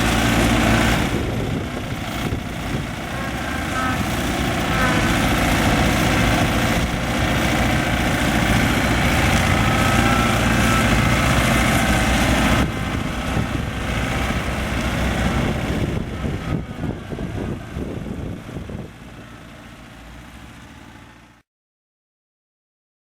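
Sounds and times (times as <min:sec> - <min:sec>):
tractor diesel engine running: 0:00.0 - 0:21.4.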